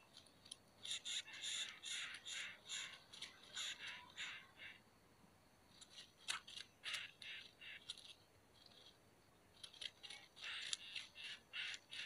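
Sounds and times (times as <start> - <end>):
harsh rasping bird calls: 0.8 - 4.8, 5.8 - 9.0, 9.6 - 12.0.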